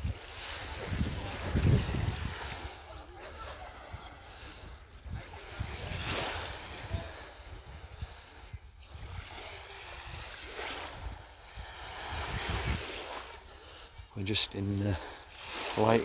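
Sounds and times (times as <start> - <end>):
wind rumbling on microphone: 0.0 - 13.4
small waves washing on sand: 0.0 - 16.0.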